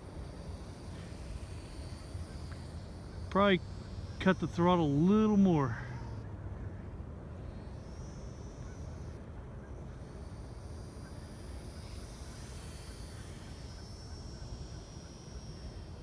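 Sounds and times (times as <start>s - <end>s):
small electric motor whine: 0.0s - 16.0s.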